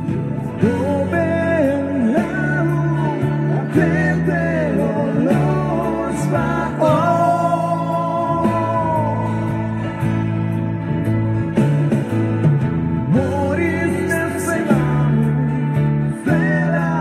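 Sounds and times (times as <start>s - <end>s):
person singing: 0.0s - 10.9s, 13.0s - 17.0s
steady bass notes: 0.0s - 17.0s.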